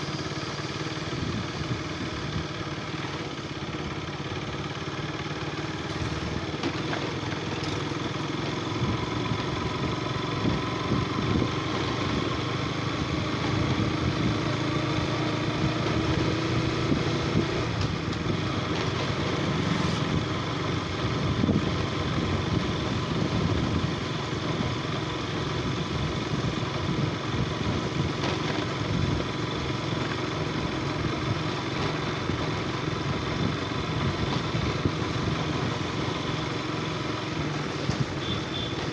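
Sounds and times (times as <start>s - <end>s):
motorcycle engine running: 0.0s - 38.9s
road and wind rush: 0.0s - 38.9s.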